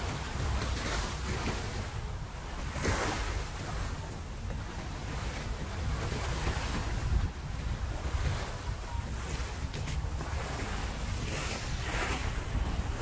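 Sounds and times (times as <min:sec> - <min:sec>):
sea waves against a seawall: 0:00.0 - 0:13.0
wind noise on microphone: 0:00.0 - 0:13.0.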